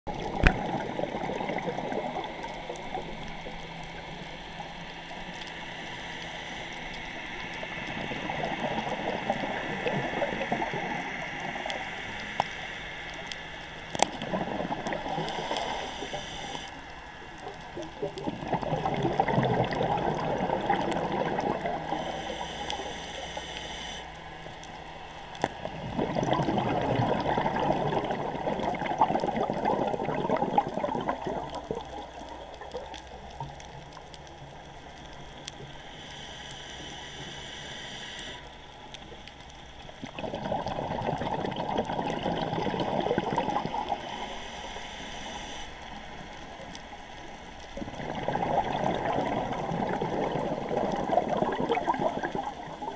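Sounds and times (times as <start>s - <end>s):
exhaled bubbles gurgling underwater: 0.1s - 35.8s, 38.2s - 52.9s
faint regulator hiss: 0.2s - 26.4s, 31.2s - 40.2s, 43.1s - 52.9s.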